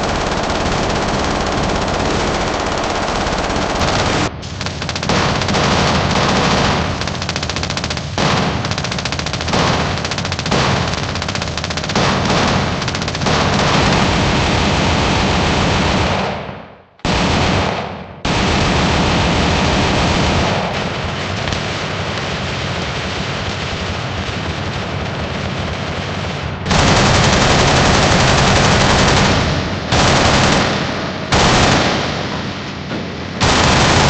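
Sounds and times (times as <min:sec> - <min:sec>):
machine-gun fire: 0:00.0 - 0:34.0.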